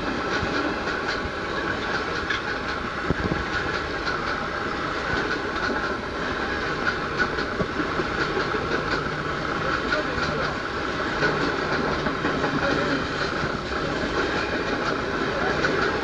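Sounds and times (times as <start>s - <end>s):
train coaches rushing past: 0.0s - 16.0s
wheels clattering over rail joints: 0.0s - 16.0s.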